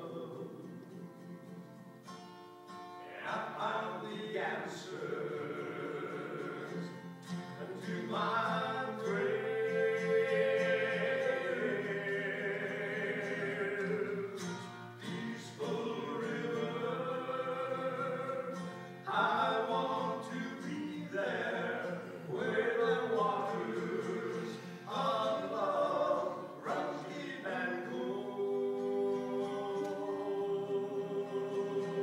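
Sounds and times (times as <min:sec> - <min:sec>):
people singing: 0:00.0 - 0:01.1, 0:03.0 - 0:32.0
acoustic guitar: 0:00.0 - 0:32.0.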